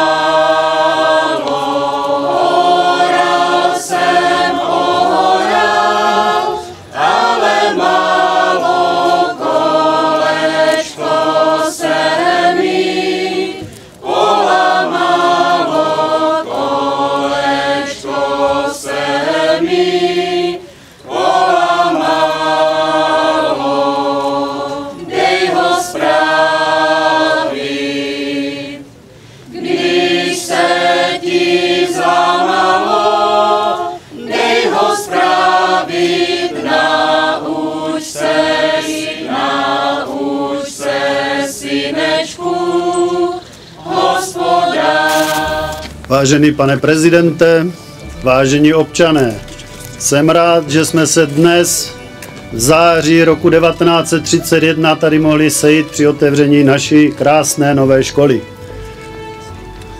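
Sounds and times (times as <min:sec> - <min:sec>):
group of people singing: 0:00.0 - 0:51.8.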